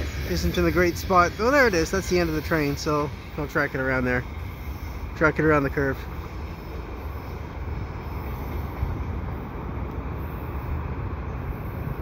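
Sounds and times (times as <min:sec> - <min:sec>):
freight train rumbling on track: 0:00.0 - 0:12.0.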